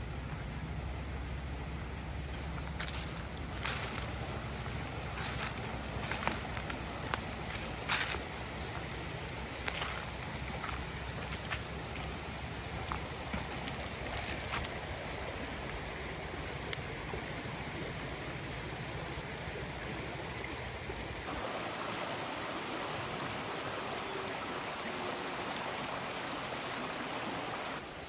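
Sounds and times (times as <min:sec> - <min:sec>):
rushing running water: 0:02.2 - 0:28.0.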